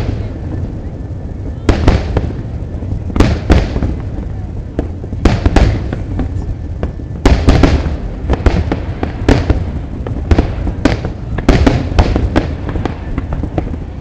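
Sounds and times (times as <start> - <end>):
fireworks bangs and crackles: 0.0 - 14.0
heavy firework booms: 0.0 - 14.0
low rumble: 0.0 - 14.0.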